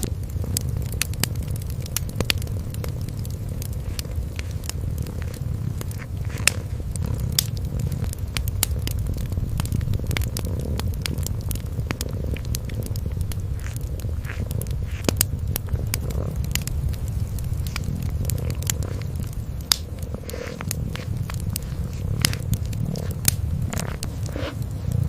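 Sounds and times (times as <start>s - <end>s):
cat purring: 0.0s - 25.0s
wood fire crackling and popping: 0.0s - 25.0s.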